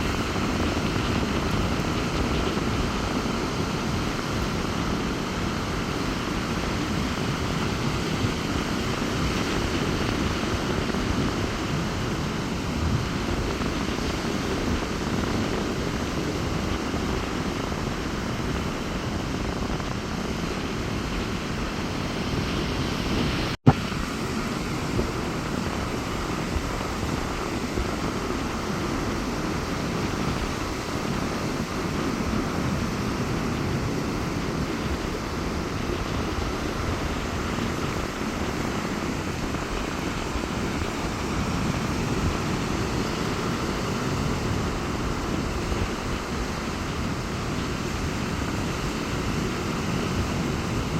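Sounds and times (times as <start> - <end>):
sea surf breaking: 0.0 - 50.9
wind rumble on microphone: 0.0 - 50.9.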